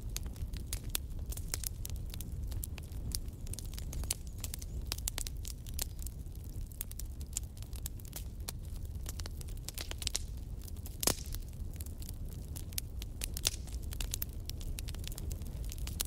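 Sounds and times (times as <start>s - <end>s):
fire low rumble: 0.0s - 16.0s
wood fire crackling and popping: 0.0s - 16.0s.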